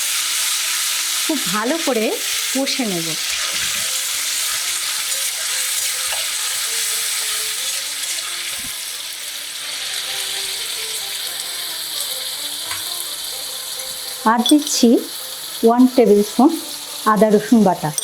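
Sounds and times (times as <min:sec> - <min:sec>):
onion paste sizzling in oil: 0:00.0 - 0:18.0.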